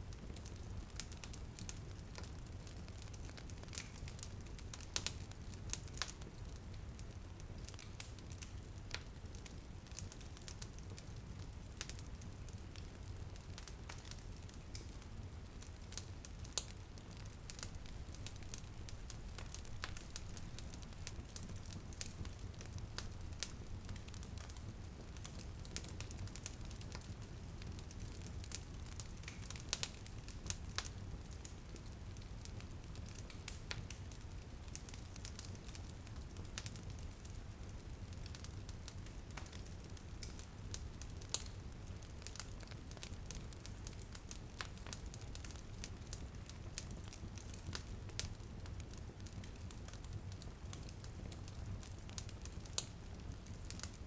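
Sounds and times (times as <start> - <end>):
light rain on a window: 0.0 - 54.0
wood fire crackling: 0.0 - 54.0.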